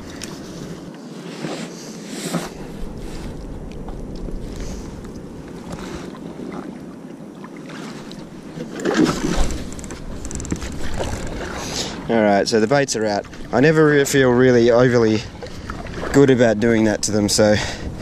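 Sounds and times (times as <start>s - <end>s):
wind on microphone: 0.0s - 12.1s, 13.1s - 18.0s
water lapping against hull: 0.0s - 18.0s.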